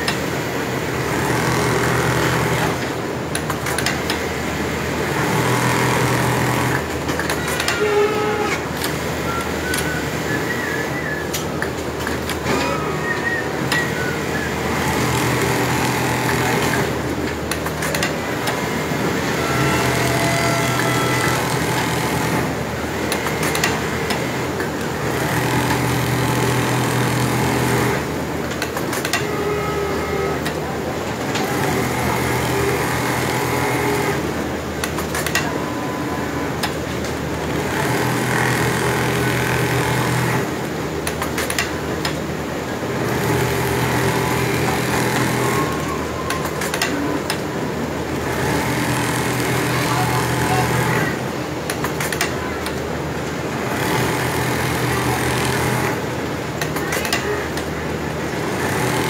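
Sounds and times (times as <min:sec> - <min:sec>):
factory machine hum: 0:00.0 - 0:59.0
sewing machine stitching: 0:00.2 - 0:10.2, 0:13.6 - 0:30.6, 0:31.2 - 0:35.5, 0:36.3 - 0:41.6, 0:42.8 - 0:52.8, 0:53.5 - 0:59.0.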